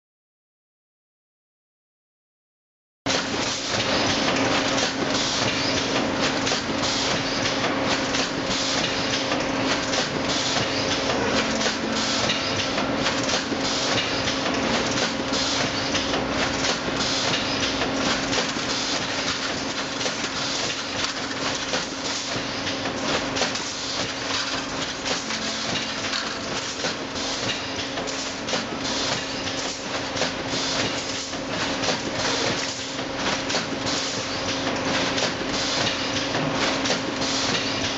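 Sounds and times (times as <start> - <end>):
rapid mechanical clatter: 3.1 - 37.9
steady machine hum: 3.1 - 37.9.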